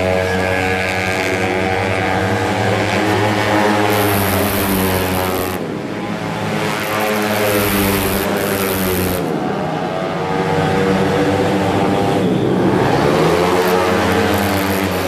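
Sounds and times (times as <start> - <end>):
scooter engines revving past: 0.0 - 15.0.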